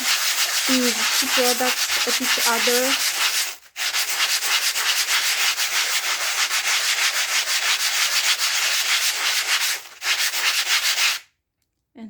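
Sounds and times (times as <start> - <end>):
sanding blocks scratching: 0.0 - 11.2.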